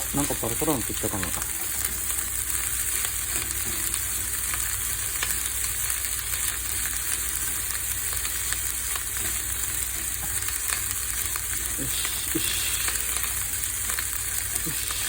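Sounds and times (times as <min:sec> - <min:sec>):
rice sizzling in a pan: 0:00.0 - 0:15.0.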